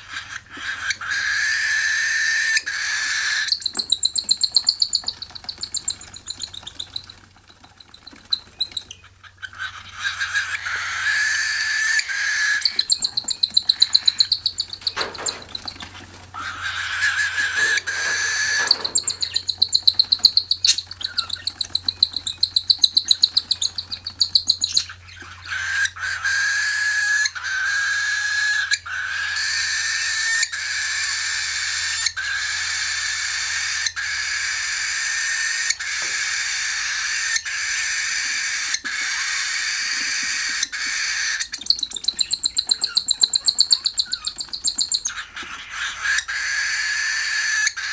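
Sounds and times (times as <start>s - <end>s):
bird chicks buzzy begging calls: 0.0s - 47.9s.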